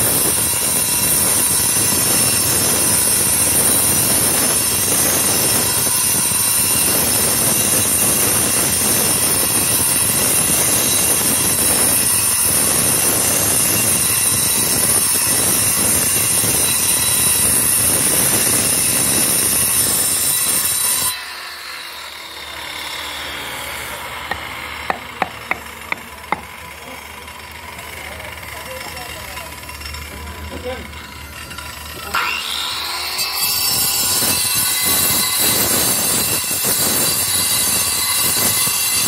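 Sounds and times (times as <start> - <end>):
angle grinder cutting stone: 0.0 - 39.0.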